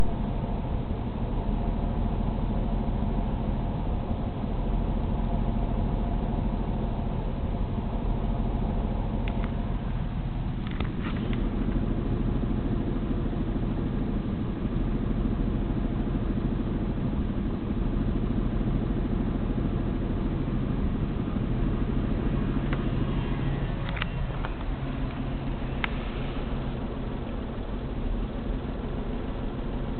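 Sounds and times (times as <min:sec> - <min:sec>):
engine idling roughly: 0:00.0 - 0:29.9.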